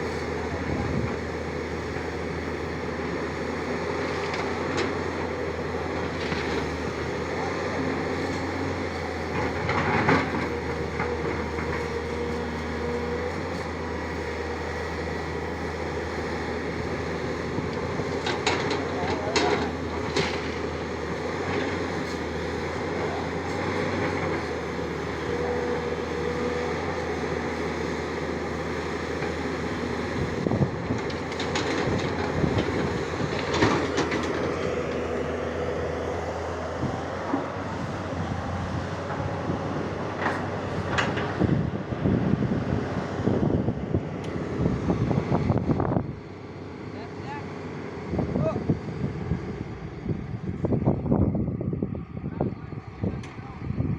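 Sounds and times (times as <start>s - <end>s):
excavator engine running: 0.0s - 53.9s.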